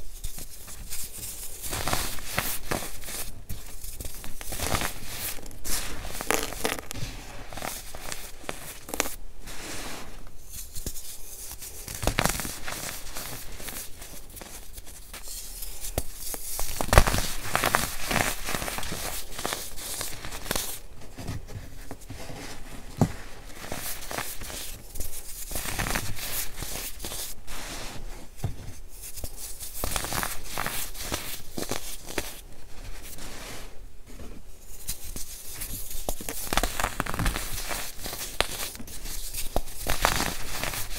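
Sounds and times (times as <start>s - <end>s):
hands crushing powder blocks: 0.1s - 40.9s.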